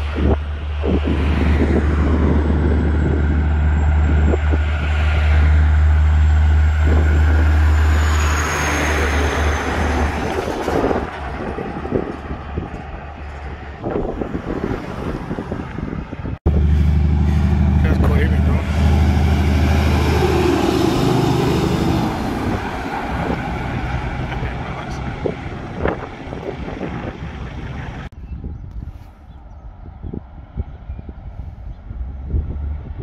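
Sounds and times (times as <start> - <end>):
truck passing: 0.0 - 28.2
wind rumble on microphone: 0.0 - 33.0.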